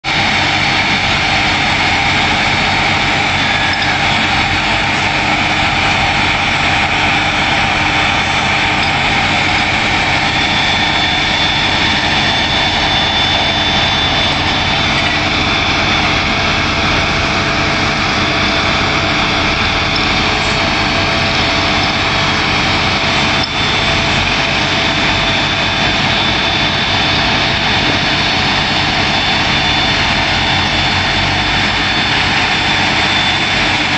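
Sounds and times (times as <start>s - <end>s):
heavy engine running steadily: 0.0s - 33.9s
steady whine: 0.0s - 33.9s.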